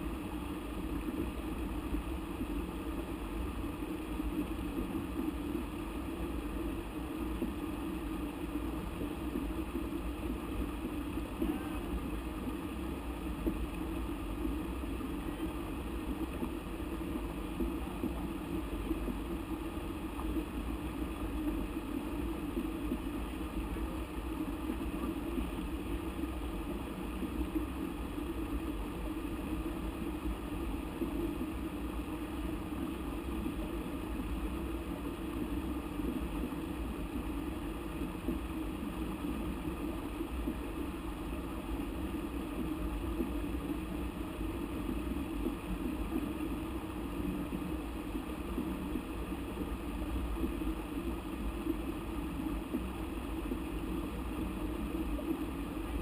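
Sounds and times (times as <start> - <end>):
muffled rushing river water: 0.0 - 56.0.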